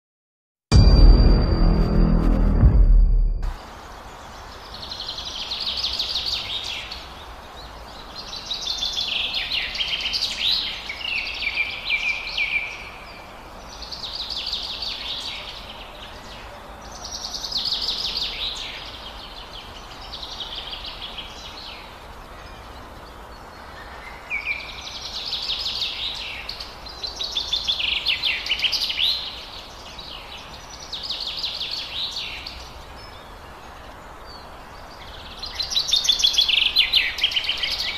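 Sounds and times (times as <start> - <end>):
small birds chattering song: 3.7 - 37.9.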